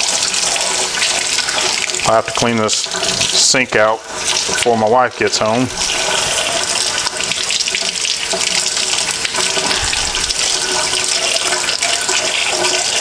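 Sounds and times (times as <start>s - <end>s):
faucet running into a sink: 0.0s - 13.0s
water splashing: 0.0s - 13.0s.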